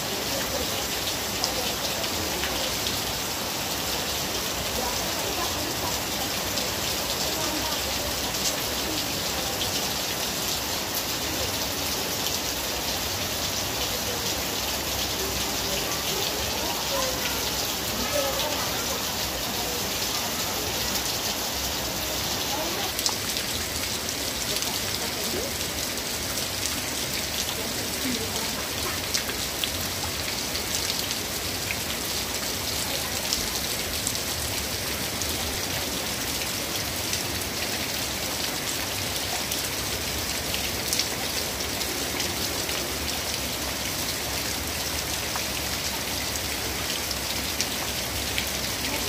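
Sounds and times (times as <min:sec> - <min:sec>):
rain on concrete and puddles: 0:00.0 - 0:49.0.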